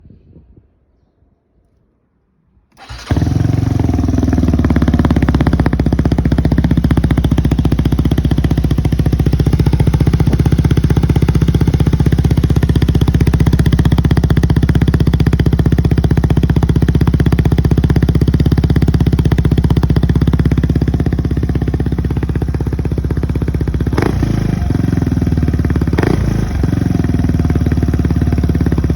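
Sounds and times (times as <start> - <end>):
scooter engine idling: 2.8 - 28.9.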